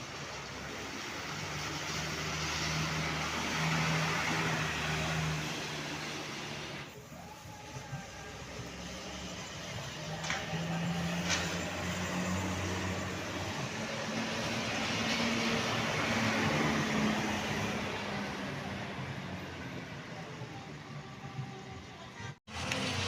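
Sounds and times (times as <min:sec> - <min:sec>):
bus engine passing: 0:00.0 - 0:23.0.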